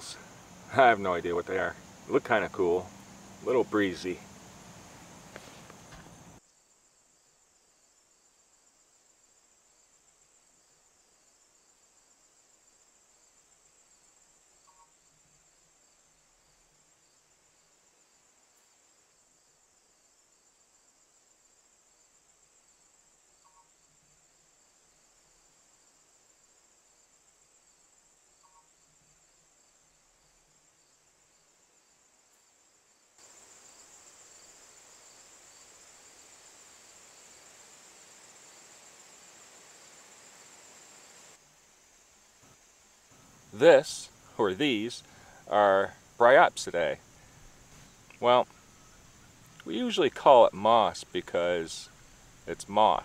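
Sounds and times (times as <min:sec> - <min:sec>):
insects trilling: 0:00.0 - 0:53.0.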